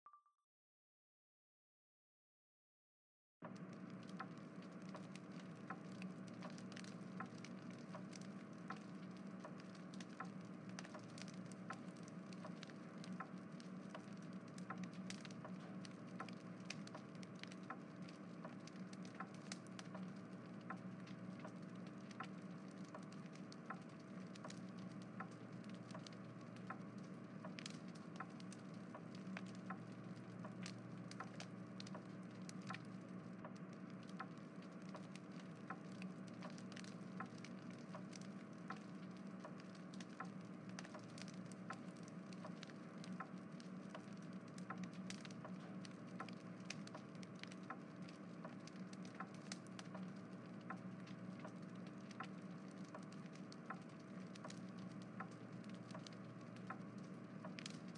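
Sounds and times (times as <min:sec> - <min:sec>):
faint steady hum: 0:03.4 - 0:57.9
soft crackling clicks: 0:03.4 - 0:57.9.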